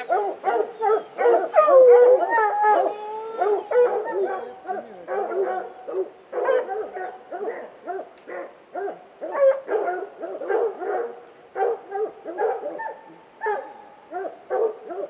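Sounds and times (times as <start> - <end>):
hounds howling: 0.0 - 8.1, 8.8 - 15.0
hounds baying and barking: 0.0 - 15.0.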